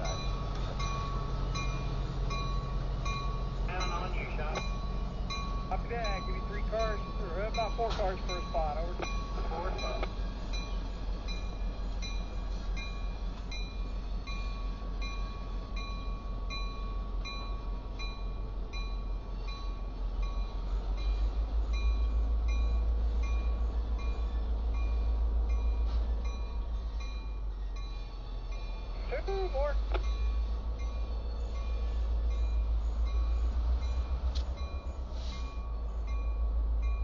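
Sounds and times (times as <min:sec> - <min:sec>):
diesel locomotives rumbling: 0:00.0 - 0:37.0.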